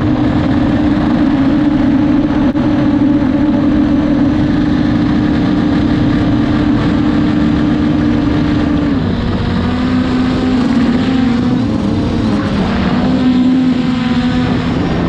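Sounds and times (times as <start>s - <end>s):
drone propellers humming: 0.0s - 15.0s
wind noise on microphone: 0.0s - 15.0s.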